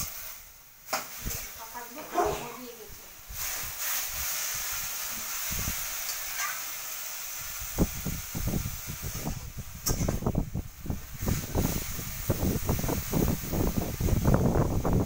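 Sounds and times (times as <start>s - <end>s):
greens hissing in a pan: 0.0s - 15.0s.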